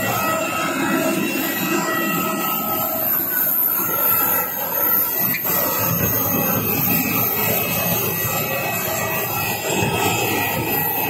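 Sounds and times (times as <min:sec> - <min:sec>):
jet turbine whining: 0:00.0 - 0:11.0.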